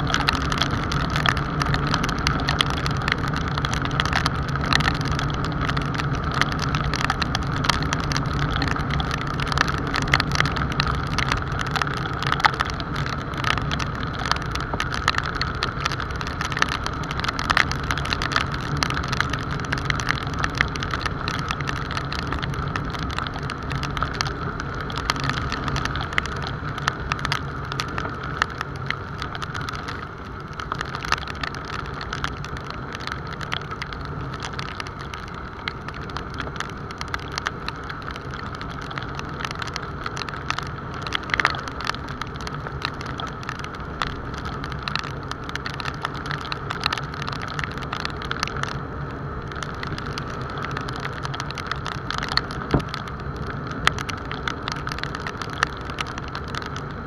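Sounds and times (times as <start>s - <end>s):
raindrops ticking on camera: 0.0s - 57.0s
wind: 0.0s - 57.0s.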